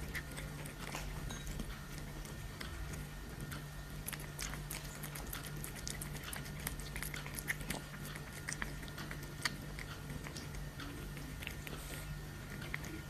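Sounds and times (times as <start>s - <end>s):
cat chewing food: 0.0s - 13.0s.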